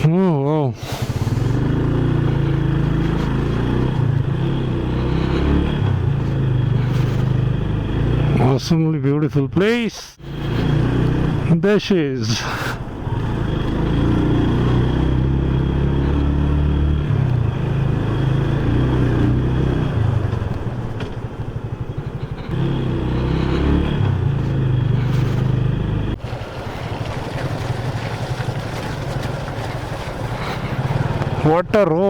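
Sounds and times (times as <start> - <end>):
wind and road noise: 0.8 - 8.6, 9.6 - 32.0
motorcycle engine running: 0.9 - 8.6, 10.2 - 11.6, 12.8 - 31.7.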